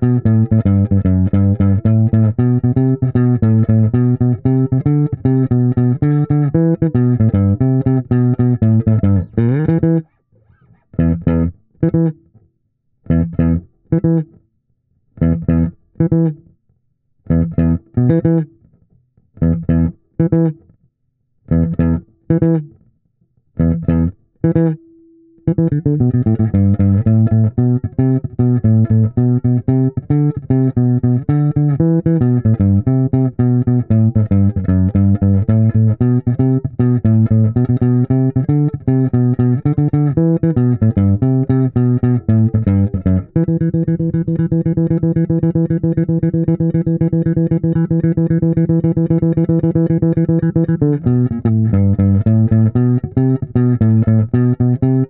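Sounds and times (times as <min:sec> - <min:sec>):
electric bass line: 0:00.0 - 0:10.1, 0:10.9 - 0:12.2, 0:13.1 - 0:14.3, 0:15.2 - 0:16.4, 0:17.3 - 0:18.5, 0:19.4 - 0:20.6, 0:21.5 - 0:22.7, 0:23.6 - 0:24.8, 0:25.4 - 0:55.0.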